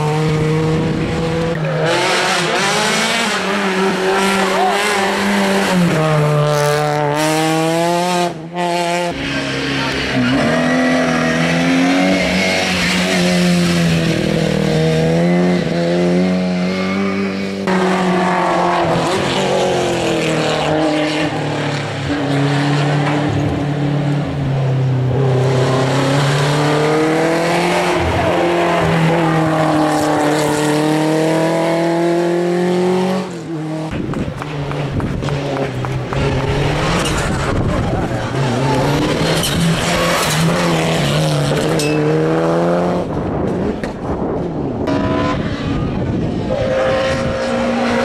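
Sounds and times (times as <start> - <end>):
race car engines revving: 0.0 - 48.0.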